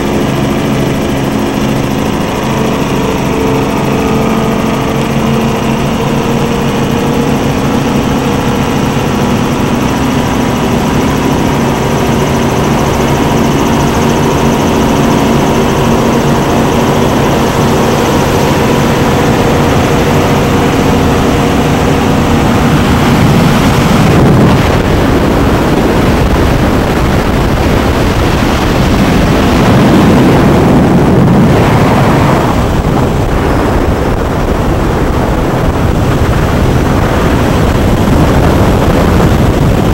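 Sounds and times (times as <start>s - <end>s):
loud engine drone: 0.0s - 39.9s
rushing noise: 0.0s - 39.9s.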